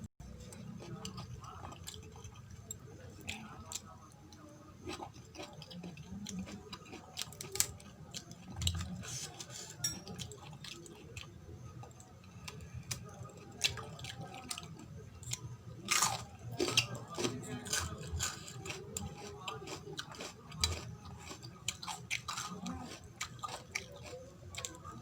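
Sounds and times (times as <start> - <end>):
close chewing and wet mouth sounds: 0.5 - 9.0, 10.1 - 25.0.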